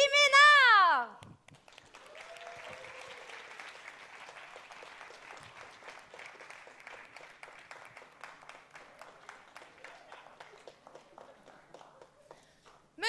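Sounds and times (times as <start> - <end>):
audience applauding: 1.5 - 12.8.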